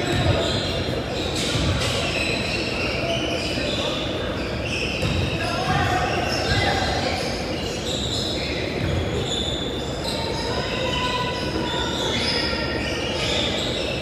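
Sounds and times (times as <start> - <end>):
sneakers squeaking on gym floor: 0.0 - 14.0.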